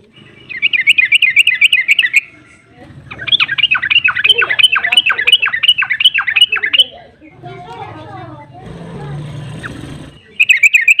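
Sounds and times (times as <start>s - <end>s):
bulbul singing: 0.0s - 8.0s, 9.3s - 11.0s.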